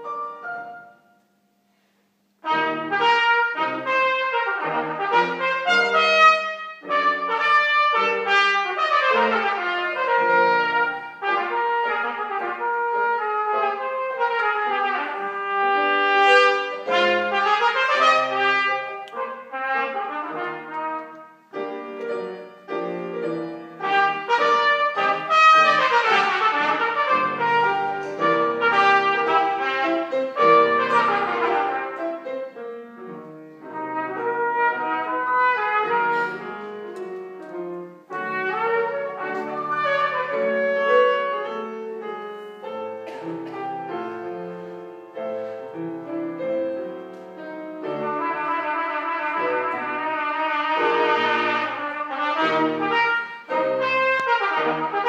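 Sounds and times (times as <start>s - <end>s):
grand piano accompaniment: 0.0s - 55.0s
trumpet melody: 2.4s - 55.0s.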